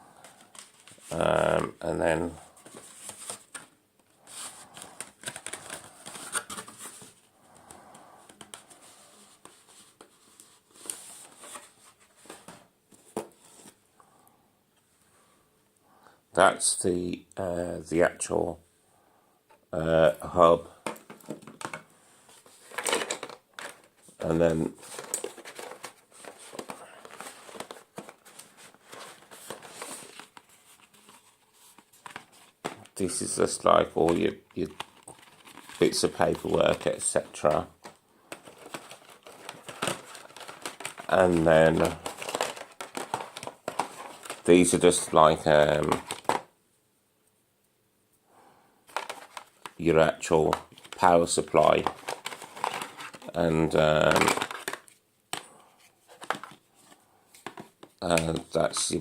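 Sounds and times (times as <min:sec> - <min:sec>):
packaging rustling and crinkling: 0:00.1 - 0:01.5, 0:02.1 - 0:13.8, 0:20.7 - 0:46.5, 0:48.8 - 0:59.0.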